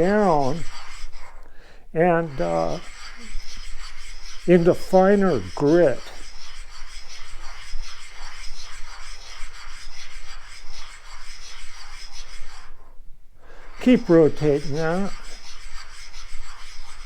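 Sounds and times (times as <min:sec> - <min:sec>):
gritty scraping on lapping plate: 0:00.0 - 0:01.4, 0:02.0 - 0:12.8, 0:13.8 - 0:17.0.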